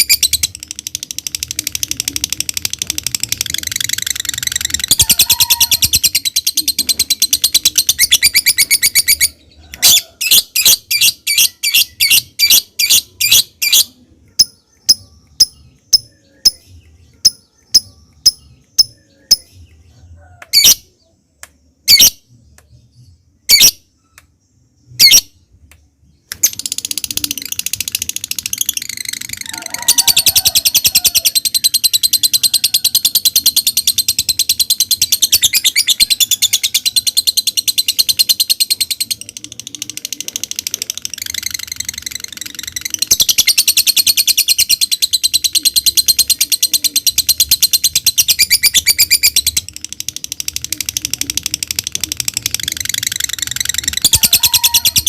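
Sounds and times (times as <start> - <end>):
lovebird high chattering trill: 0.0 - 19.6, 25.0 - 25.3, 26.3 - 55.0
lovebird chirps: 0.0 - 55.0.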